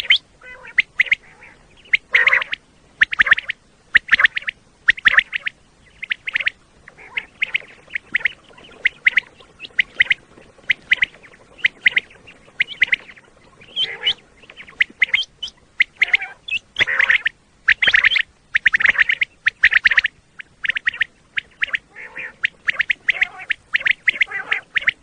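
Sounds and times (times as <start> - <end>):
quail calling: 0.0 - 25.0.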